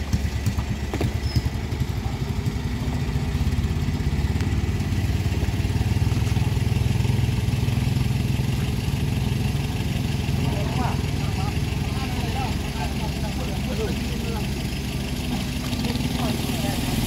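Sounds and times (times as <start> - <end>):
truck engine rumbling under load: 0.0 - 17.0.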